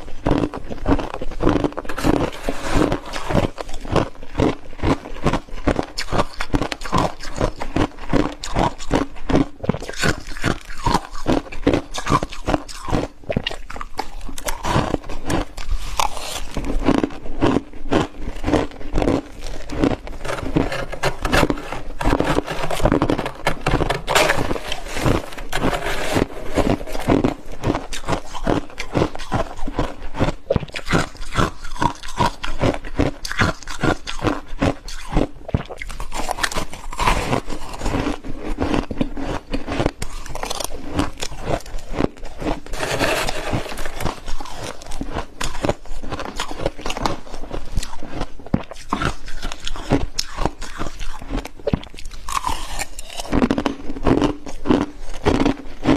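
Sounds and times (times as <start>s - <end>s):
frost being chewed crunching: 0.0s - 55.9s.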